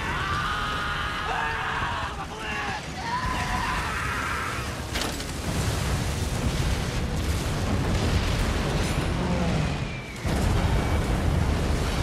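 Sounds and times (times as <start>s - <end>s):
explosions rumbling: 2.0s - 12.0s.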